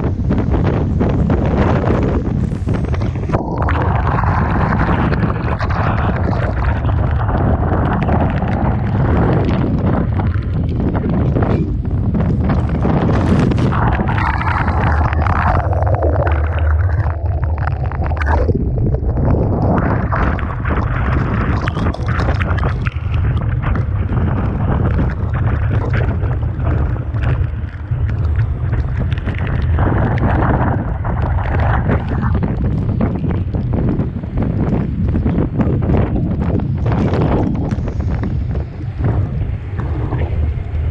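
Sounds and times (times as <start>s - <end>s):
rough sea waves and spray: 0.0s - 40.9s
wind buffeting the microphone: 0.0s - 40.9s.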